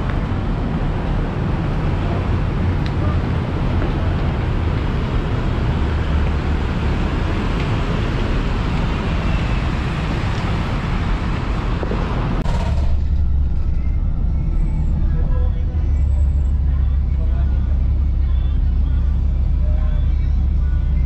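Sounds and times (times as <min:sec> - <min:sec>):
deep engine rumble: 0:00.0 - 0:21.0
road traffic rumble: 0:00.0 - 0:21.0.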